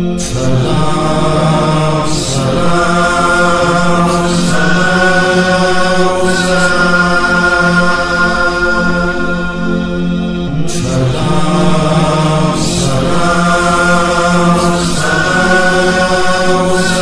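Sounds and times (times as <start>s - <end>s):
chanted vocal drone: 0.0s - 17.0s
low pulsing rhythm: 0.0s - 17.0s.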